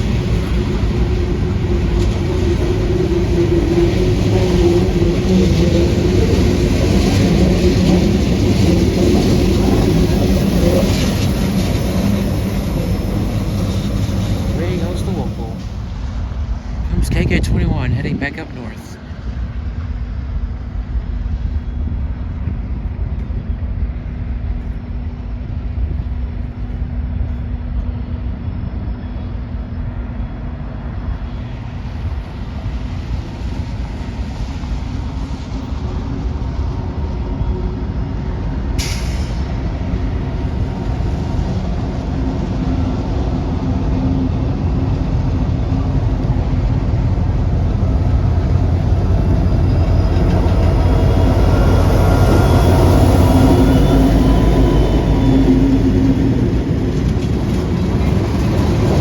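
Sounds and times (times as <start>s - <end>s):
freight train rumbling by: 0.0s - 59.0s.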